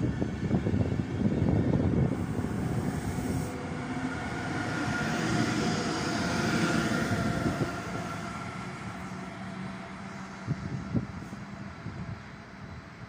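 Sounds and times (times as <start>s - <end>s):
train wheels rolling on rails: 0.0s - 12.6s
locomotive whine: 0.0s - 13.0s.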